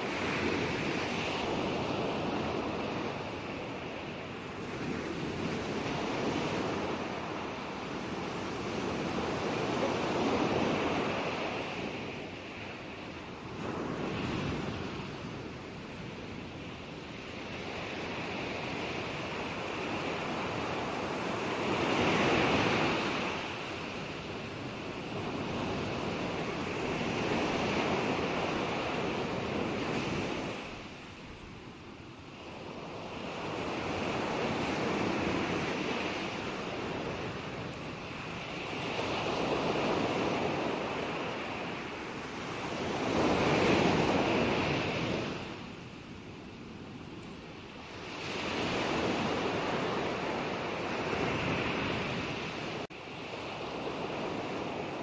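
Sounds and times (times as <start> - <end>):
ocean waves breaking: 0.0 - 31.5, 32.3 - 45.9, 47.6 - 55.0.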